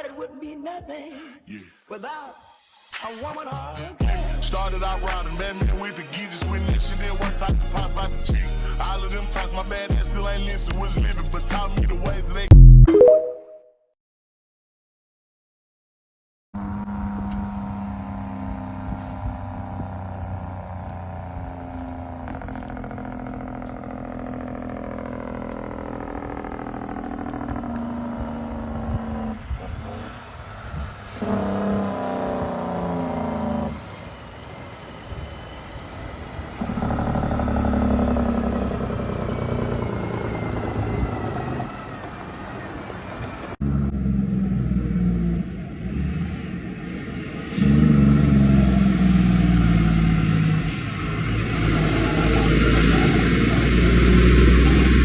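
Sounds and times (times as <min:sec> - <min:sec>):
truck engines running: 0:03.4 - 0:12.5, 0:16.6 - 0:55.0.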